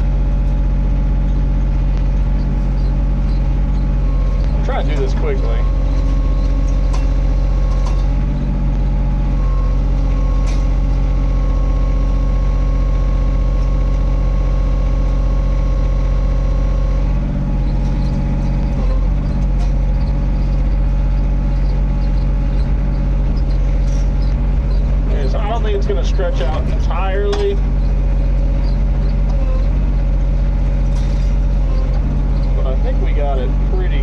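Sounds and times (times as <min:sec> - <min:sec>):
excavator diesel engine running: 0:00.0 - 0:34.0
steady whine: 0:00.0 - 0:34.0.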